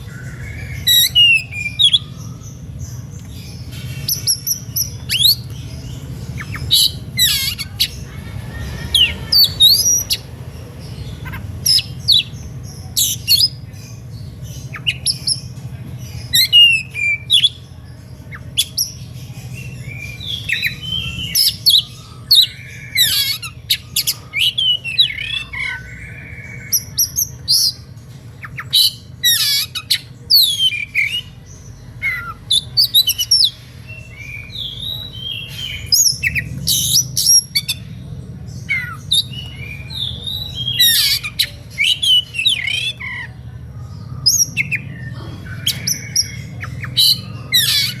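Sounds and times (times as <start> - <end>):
songbird singing whistles and raspy calls: 0.0 - 43.4, 44.0 - 48.0.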